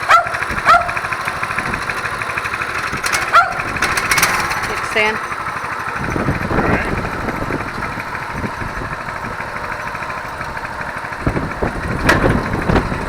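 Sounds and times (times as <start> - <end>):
minibike engine idling: 0.0 - 13.0.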